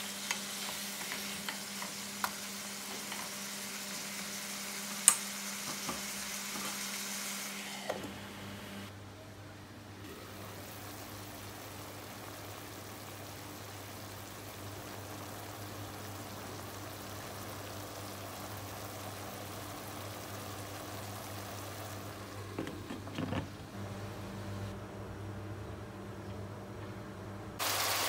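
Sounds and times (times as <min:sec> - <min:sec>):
pot simmering hiss: 0:00.0 - 0:08.9, 0:10.0 - 0:24.8, 0:27.6 - 0:28.0.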